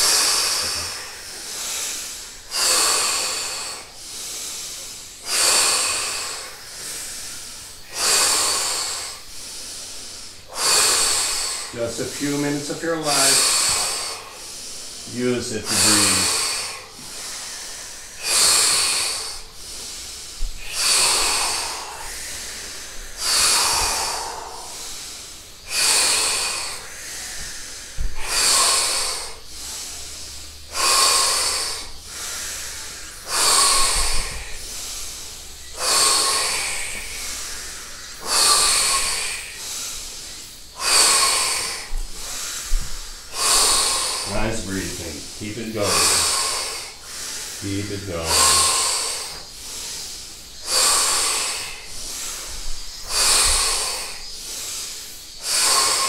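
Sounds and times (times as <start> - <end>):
deep forceful mouth breathing: 0.0 - 56.0.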